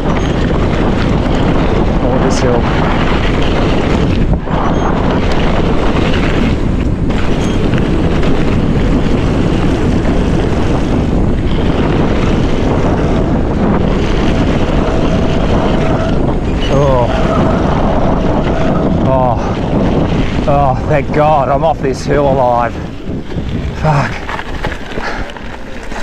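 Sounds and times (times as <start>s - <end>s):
bike ride rumble: 0.0s - 26.0s
wind buffeting microphone: 0.0s - 26.0s.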